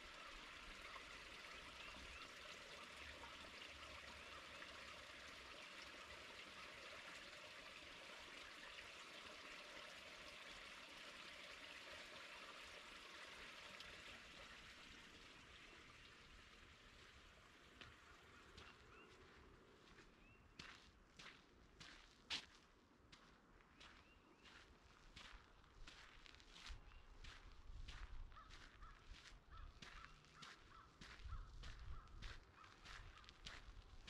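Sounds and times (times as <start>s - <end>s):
brook water trickling: 0.0s - 34.0s.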